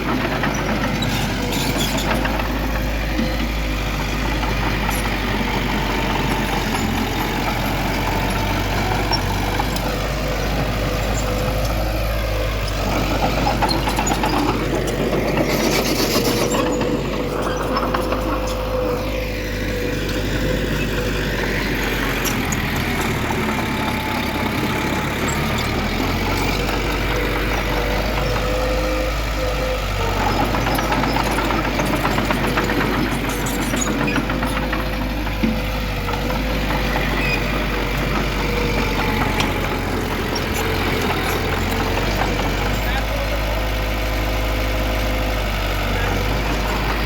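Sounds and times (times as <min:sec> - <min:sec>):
diesel machinery rumbling: 0:00.0 - 0:47.0.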